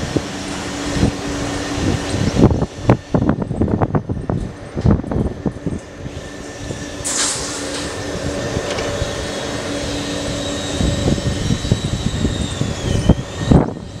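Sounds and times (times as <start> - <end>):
distant jet engine whine: 0.0 - 14.0
low jet engine rumble: 0.0 - 14.0.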